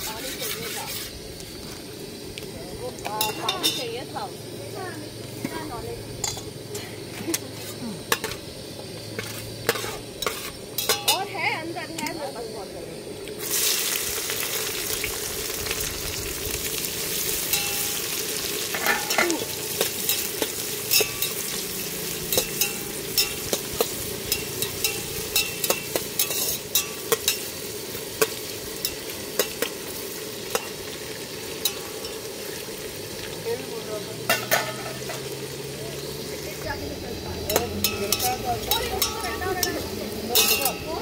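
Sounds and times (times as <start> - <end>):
onions sizzling in hot oil: 0.0 - 41.0.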